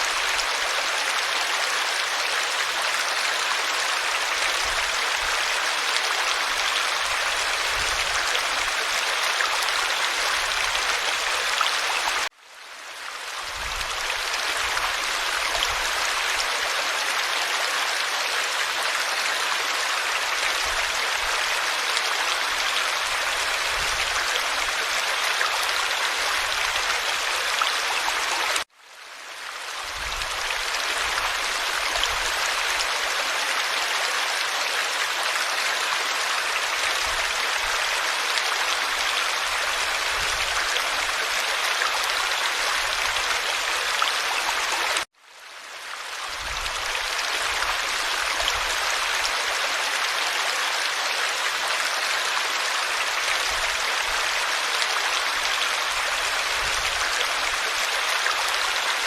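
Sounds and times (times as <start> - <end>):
stream babbling over stones: 0.0 - 12.4, 13.0 - 59.0.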